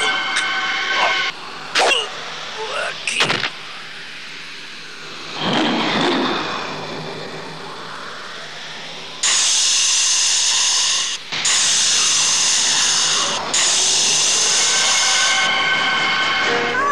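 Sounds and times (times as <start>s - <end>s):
loud steady hiss: 0.0s - 5.4s, 6.6s - 16.8s.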